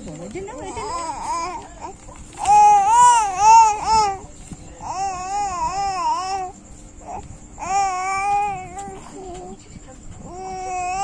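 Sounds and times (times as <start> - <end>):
baby babbling: 0.6 - 4.2, 4.8 - 9.5, 10.2 - 11.0.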